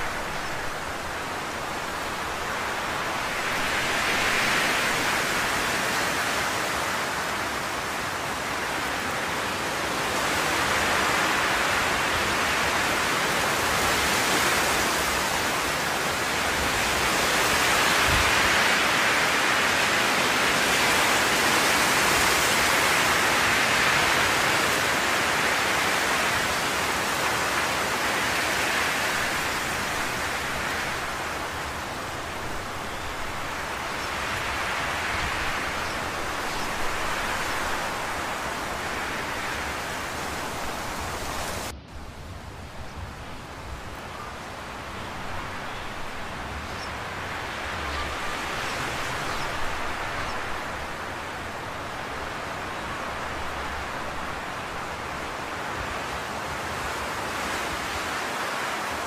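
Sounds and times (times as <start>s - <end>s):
rushing hiss of background noise: 0.0s - 59.0s.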